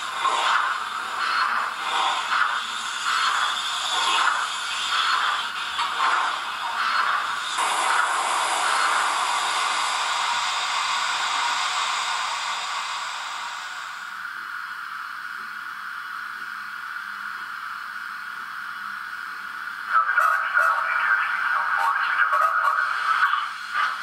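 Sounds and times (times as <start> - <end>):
steam hiss: 0.0 - 15.3, 19.2 - 24.0.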